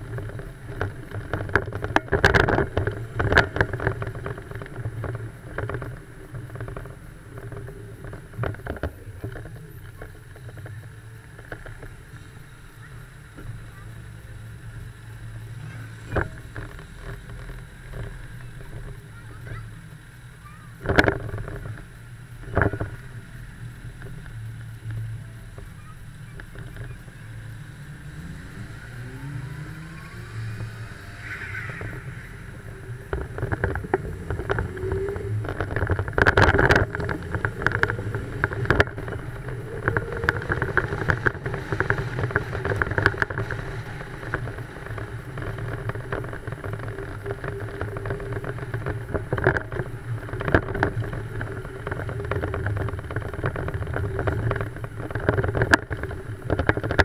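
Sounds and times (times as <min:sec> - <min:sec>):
knocks and rattles: 0:00.0 - 0:12.1, 0:12.7 - 0:57.0
car engine and road noise: 0:00.0 - 0:57.0.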